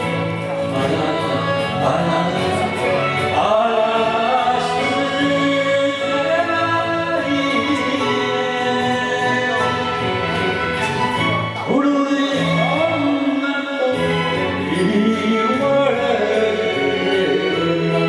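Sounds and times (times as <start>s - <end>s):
man singing into a microphone: 0.0s - 10.9s, 11.6s - 18.0s
karaoke backing track: 0.0s - 18.0s.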